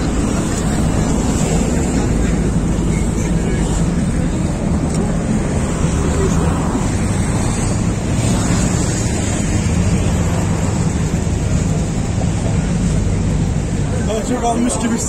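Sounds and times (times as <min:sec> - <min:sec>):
wind buffeting microphone: 0:00.0 - 0:14.6
diesel engines droning: 0:00.0 - 0:15.0.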